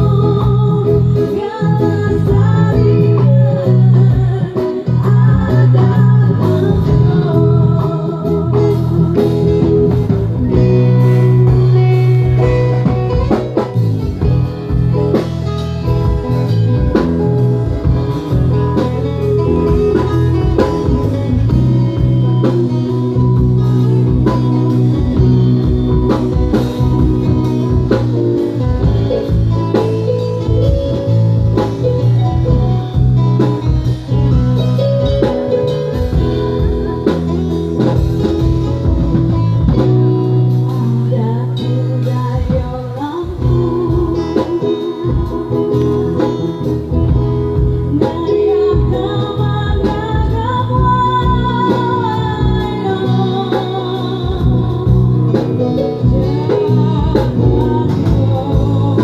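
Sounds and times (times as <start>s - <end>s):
band playing: 0.0s - 59.0s
drum kit: 0.0s - 59.0s
plucked guitar: 0.0s - 59.0s.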